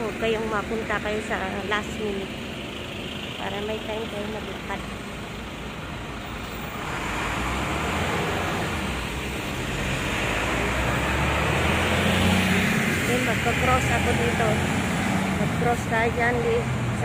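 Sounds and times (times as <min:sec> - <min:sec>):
engine low hum: 0:00.0 - 0:17.0
road traffic: 0:00.0 - 0:17.0.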